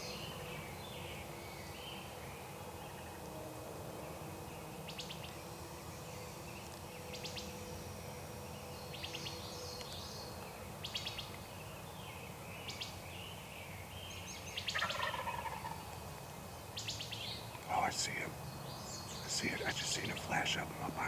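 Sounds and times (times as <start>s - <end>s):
outdoor background noise: 0.0s - 21.0s
songbirds trilling: 4.1s - 21.0s.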